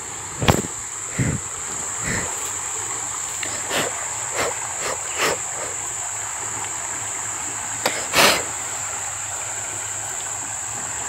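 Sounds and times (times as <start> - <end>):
floodwater rushing and churning: 0.0 - 11.0
high-pitched insect drone: 0.0 - 11.0
water splashes: 0.0 - 11.0.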